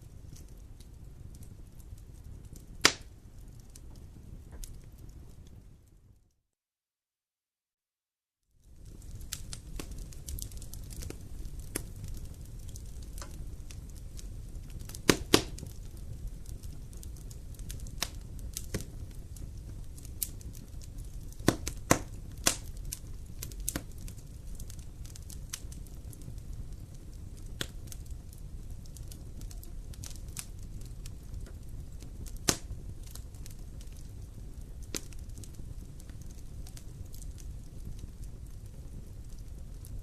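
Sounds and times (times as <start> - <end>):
campfire crackling and popping: 0.0 - 6.0, 8.6 - 40.0
low fire rumble: 0.0 - 6.3, 8.6 - 40.0.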